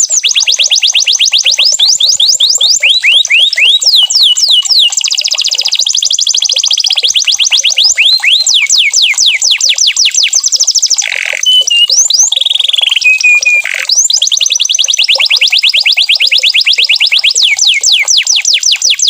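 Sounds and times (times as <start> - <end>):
canary singing: 0.0 - 19.0.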